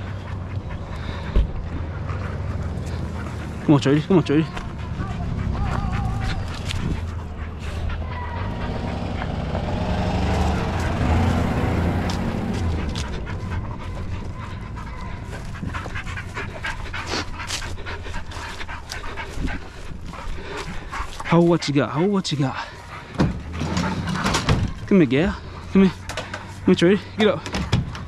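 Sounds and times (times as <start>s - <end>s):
dogs panting and whining: 0.0s - 28.0s.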